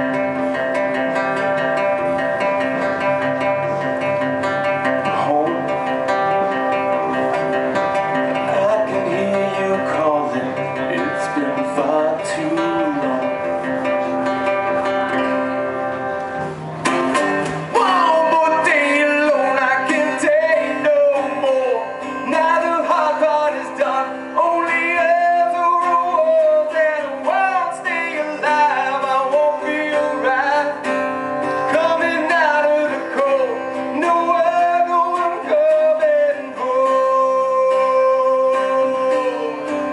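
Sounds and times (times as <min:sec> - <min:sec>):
man singing: 0:00.0 - 0:15.6, 0:17.6 - 0:39.9
acoustic guitar: 0:00.0 - 0:39.9.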